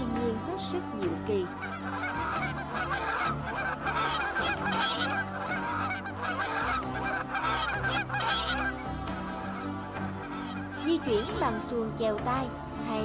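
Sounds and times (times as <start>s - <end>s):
flock of waterfowl calling: 0.0s - 13.0s
soft background music: 0.0s - 13.0s.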